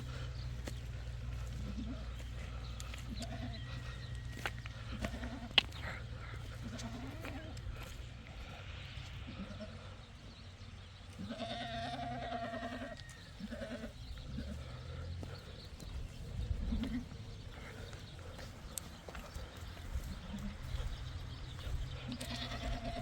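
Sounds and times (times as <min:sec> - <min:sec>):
steady low rumble: 0:00.0 - 0:11.1, 0:13.5 - 0:23.0
sheep bleating: 0:00.1 - 0:08.0, 0:09.0 - 0:10.0, 0:11.1 - 0:15.0, 0:16.6 - 0:18.5, 0:19.1 - 0:23.0.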